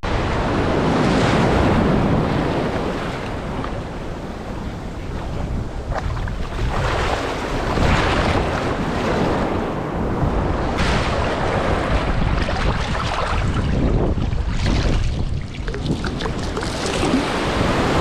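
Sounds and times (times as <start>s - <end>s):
wind buffeting microphone: 0.0s - 18.0s
sea waves washing onto shore: 0.1s - 18.0s.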